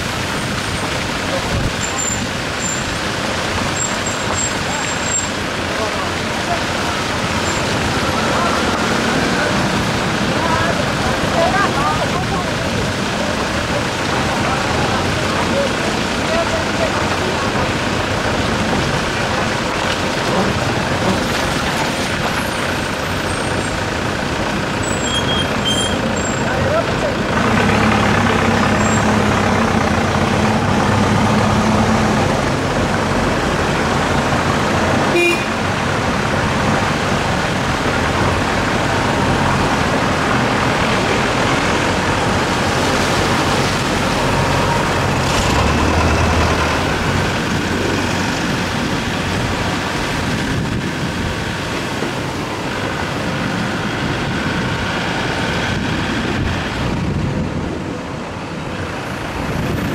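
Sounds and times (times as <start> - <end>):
motorcycle and truck engines: 0.0 - 59.9
road noise: 0.0 - 59.9.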